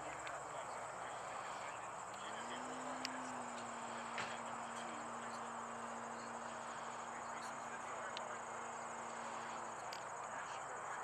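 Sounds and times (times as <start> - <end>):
crickets chirping: 0.0 - 11.0
faint low hum: 0.0 - 11.0.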